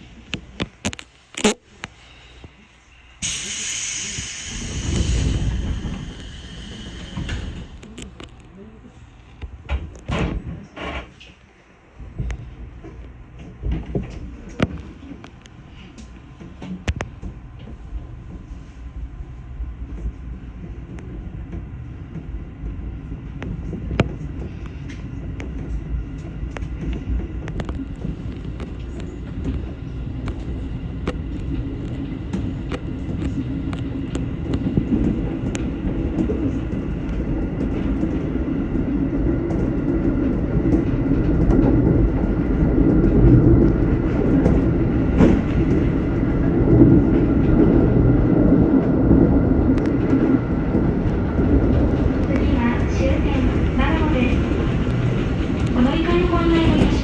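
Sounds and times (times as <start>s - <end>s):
train wheels rumbling on rails: 3.2s - 57.0s.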